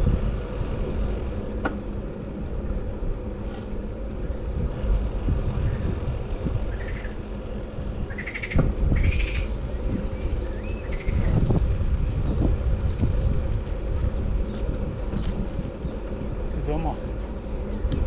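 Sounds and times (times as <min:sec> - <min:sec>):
road and traffic rumble: 0:00.0 - 0:18.0.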